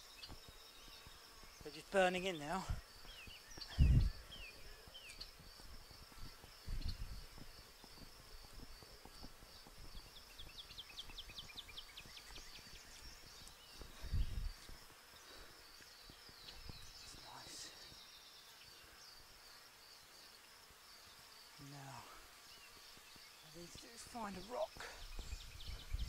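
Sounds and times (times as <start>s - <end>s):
pulsing insect chirr: 0.0s - 26.0s.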